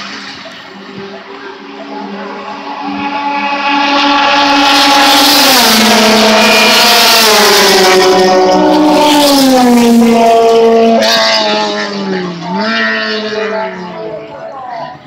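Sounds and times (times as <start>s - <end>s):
race car engine passing by: 0.0s - 15.0s.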